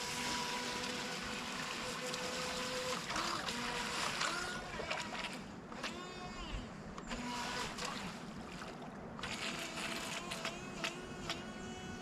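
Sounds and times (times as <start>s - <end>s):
small electric motor whining: 0.0s - 7.8s, 9.2s - 12.0s
hiss of wind and water: 0.0s - 12.0s.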